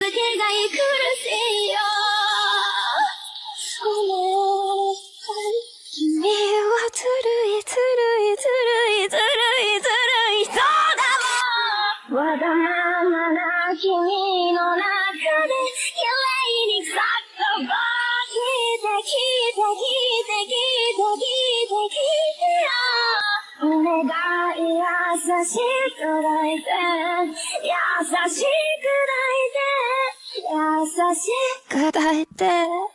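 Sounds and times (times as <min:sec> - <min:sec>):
woman singing with vibrato: 0:00.0 - 0:32.9.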